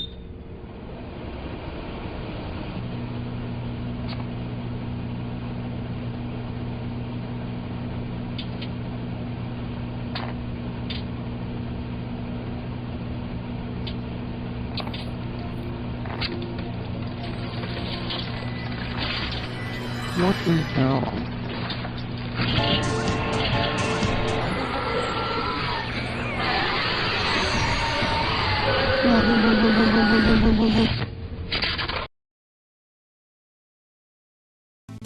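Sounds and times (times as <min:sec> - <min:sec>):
microwave oven humming: 0:00.0 - 0:31.5.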